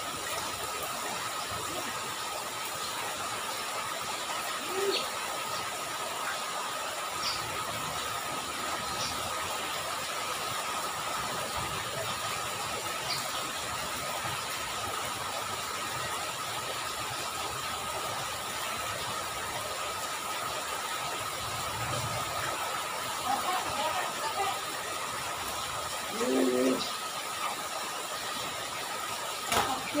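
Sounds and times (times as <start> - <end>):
rain falling into puddles: 0.0 - 30.0.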